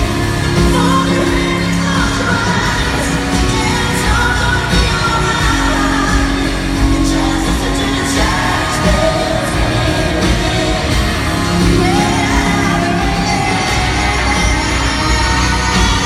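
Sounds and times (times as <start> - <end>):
live country-pop band: 0.0 - 16.0
woman singing: 0.0 - 16.0.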